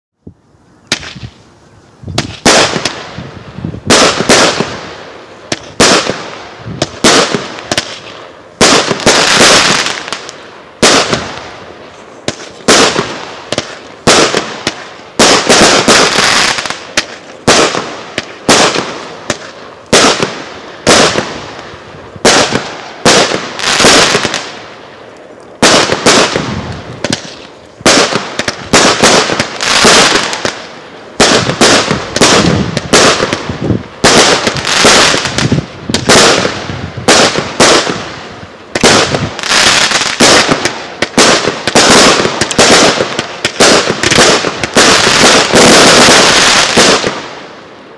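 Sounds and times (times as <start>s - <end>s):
firework shots bang and hiss: 0.8s - 24.9s, 25.6s - 47.7s.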